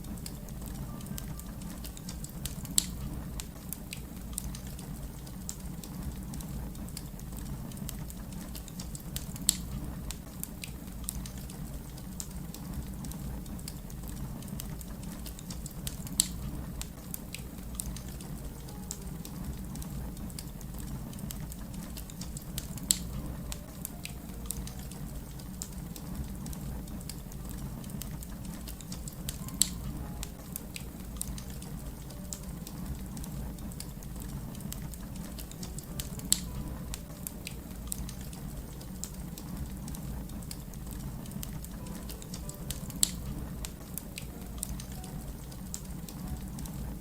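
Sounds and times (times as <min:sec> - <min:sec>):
fire popping loudly: 0:00.0 - 0:47.0
flames rumbling: 0:00.0 - 0:47.0
wood fire snapping: 0:00.0 - 0:47.0.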